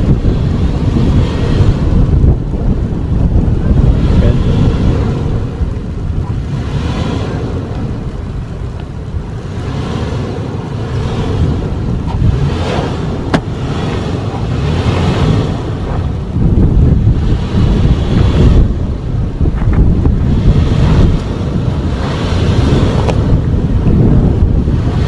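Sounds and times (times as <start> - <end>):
vehicle rumbling over dirt trail: 0.0 - 25.0
wind buffeting microphone: 0.0 - 25.0.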